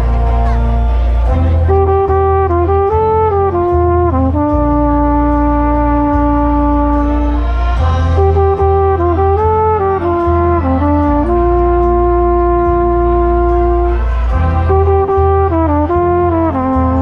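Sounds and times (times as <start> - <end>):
deep low undertone: 0.0 - 17.0
marching band brass melody: 0.0 - 17.0
trumpet playing close up: 0.0 - 17.0.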